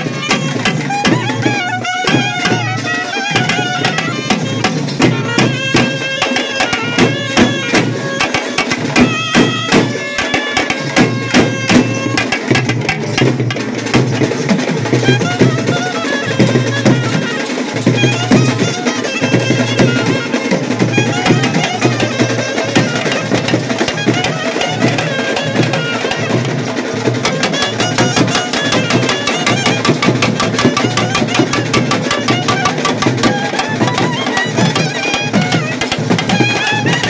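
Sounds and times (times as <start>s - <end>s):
clarinets playing folk melody: 0.0s - 12.4s, 15.0s - 37.0s
fast frame drum beats: 0.0s - 37.0s.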